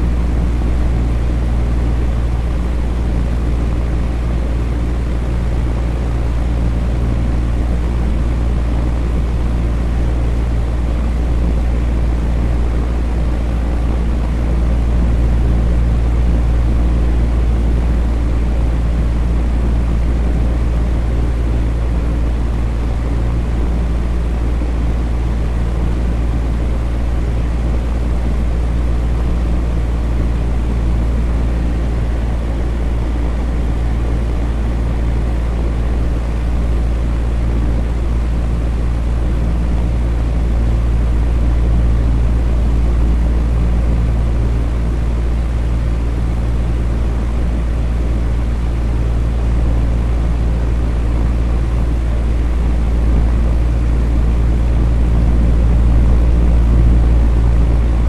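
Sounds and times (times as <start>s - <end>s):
electric fan whooshing: 0.0s - 58.0s.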